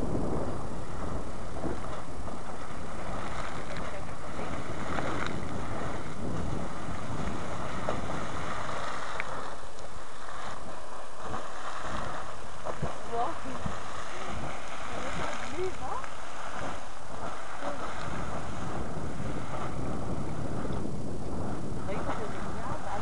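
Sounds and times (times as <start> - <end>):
geyser water rushing and splashing: 0.0 - 23.0
wind buffeting microphone: 0.0 - 23.0.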